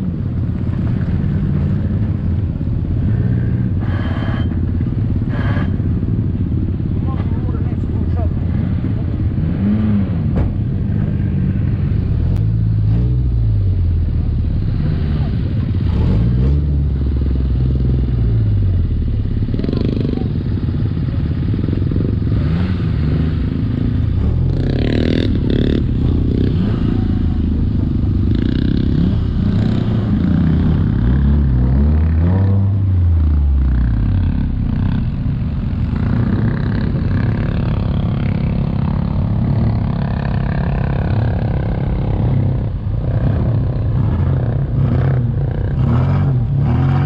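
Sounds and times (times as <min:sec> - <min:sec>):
off-road vehicle engine running: 0:00.0 - 0:47.0.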